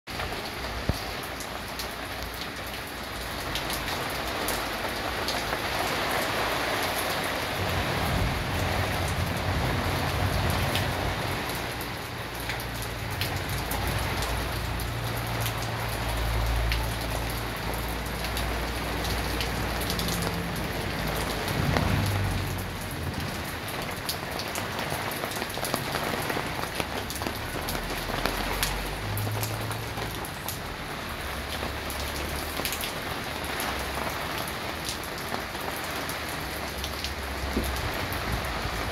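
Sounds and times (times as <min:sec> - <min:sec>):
heavy rain on tiles: 0:00.1 - 0:38.9
sharp water drips: 0:00.2 - 0:38.9.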